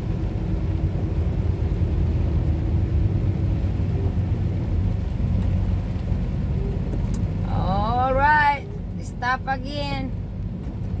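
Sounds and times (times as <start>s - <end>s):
diesel engine rumbling: 0.0s - 11.0s
road noise: 0.0s - 11.0s.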